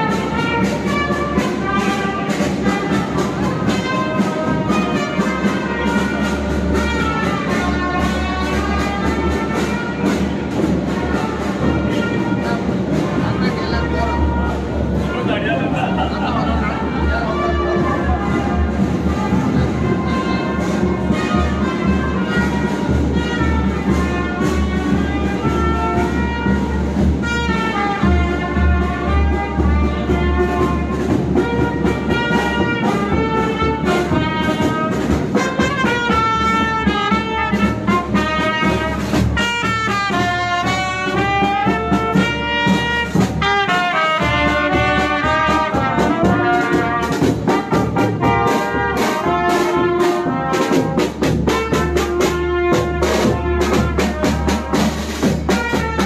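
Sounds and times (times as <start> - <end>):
brass-led music with steady beat: 0.0 - 56.0.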